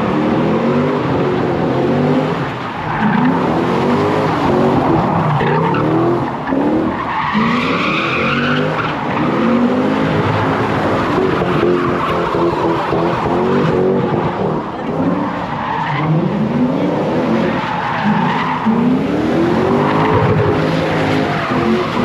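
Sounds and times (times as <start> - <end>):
car engine revving: 0.0 - 22.0
tyres spinning and squealing: 0.0 - 22.0.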